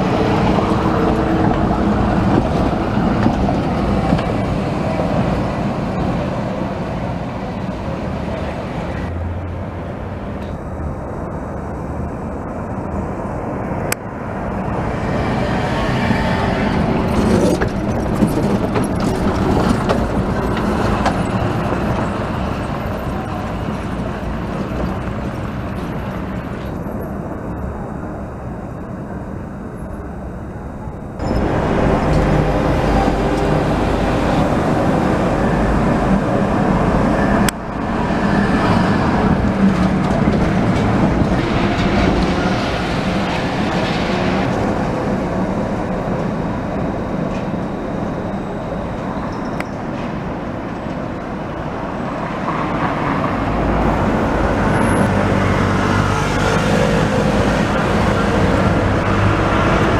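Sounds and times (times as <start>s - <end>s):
road traffic: 0.0s - 59.9s
tram running past: 0.0s - 59.9s.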